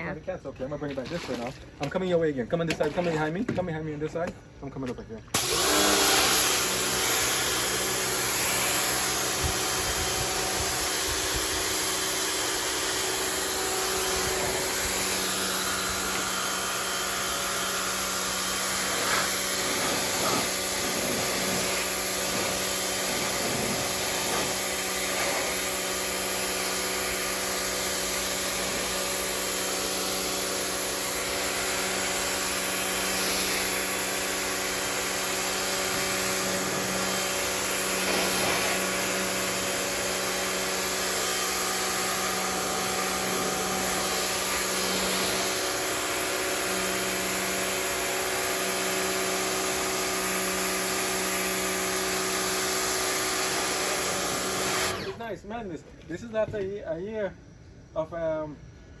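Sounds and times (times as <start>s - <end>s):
pressure washer motor humming: 5.3s - 55.2s
water jet hissing on concrete: 5.4s - 55.0s.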